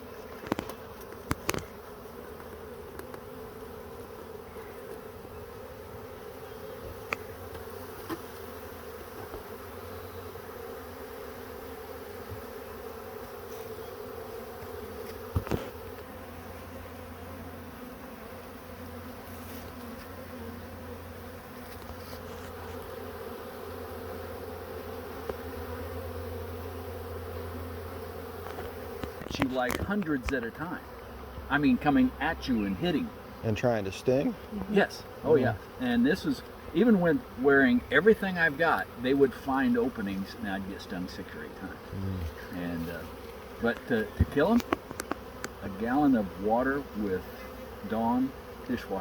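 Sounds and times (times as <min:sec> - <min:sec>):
bee swarm buzzing: 0:00.0 - 0:49.0.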